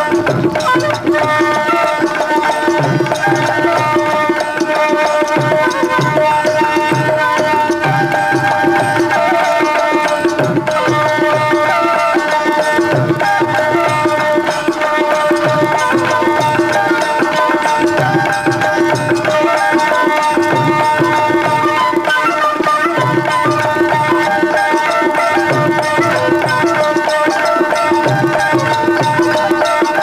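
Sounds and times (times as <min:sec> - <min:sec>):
double flute drone and melody: 0:00.0 - 0:30.0.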